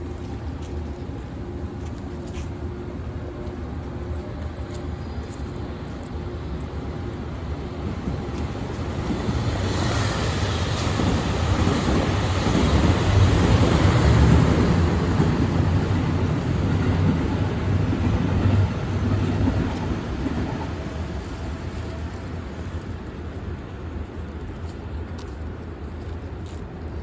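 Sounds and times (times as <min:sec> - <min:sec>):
diesel train rumble: 0:00.0 - 0:27.0.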